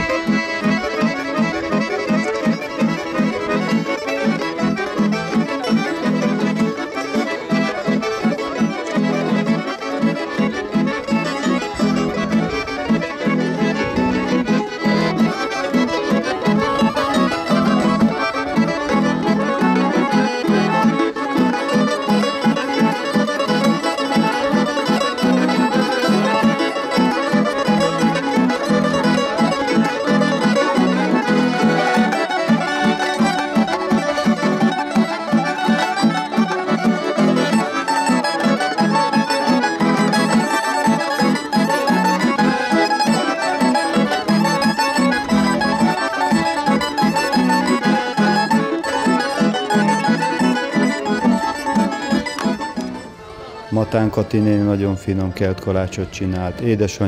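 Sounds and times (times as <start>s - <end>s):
folk band playing lively tune: 0.0s - 57.0s.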